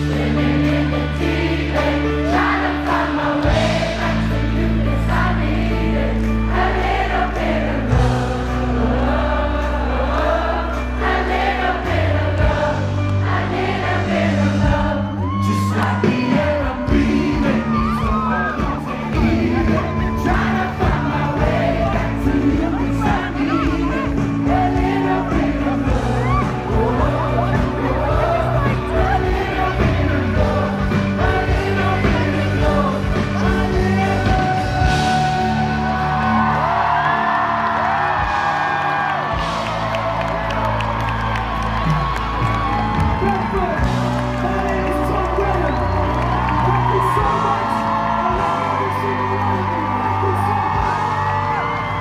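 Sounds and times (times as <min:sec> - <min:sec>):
crowd singing along: 0:00.0 - 0:43.3
live pop rock band: 0:00.0 - 0:52.0.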